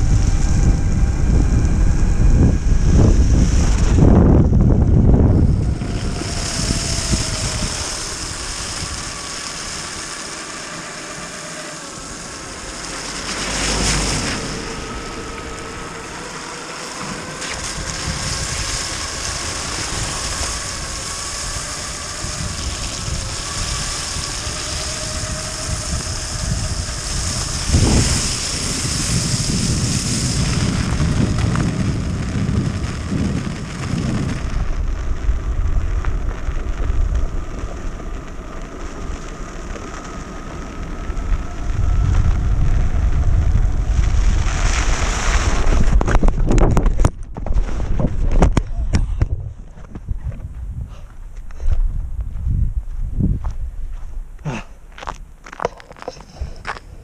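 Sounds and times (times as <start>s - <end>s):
electric motors whining: 0.0s - 46.6s
tyres rushing on snow: 0.0s - 48.5s
wind on microphone: 0.0s - 57.0s.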